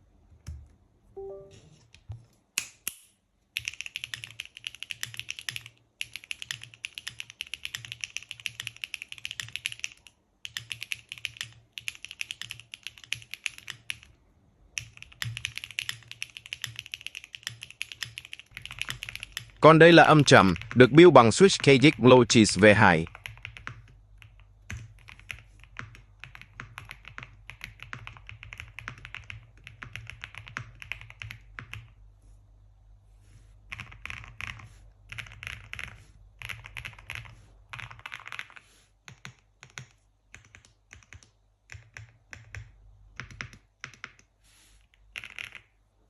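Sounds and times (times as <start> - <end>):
mechanical keyboard typing: 3.6 - 14.2, 14.8 - 22.1, 23.1 - 31.9, 33.7 - 44.3, 45.0 - 45.7.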